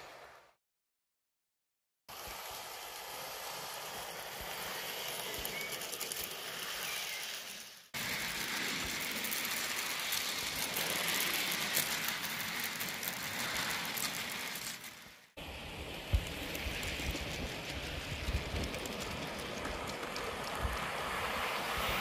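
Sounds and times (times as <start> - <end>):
model train wheels rattling on rails: 2.1 - 22.0.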